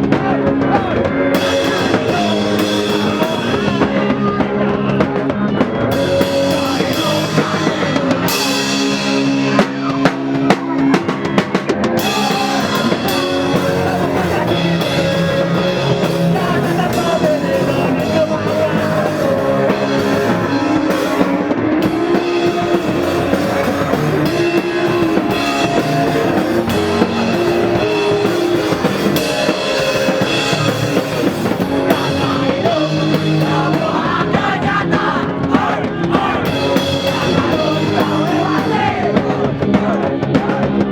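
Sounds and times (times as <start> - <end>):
drum kit: 0.0 - 40.9
guitar: 0.0 - 40.9
person singing: 0.0 - 40.9
rock music: 0.0 - 40.9.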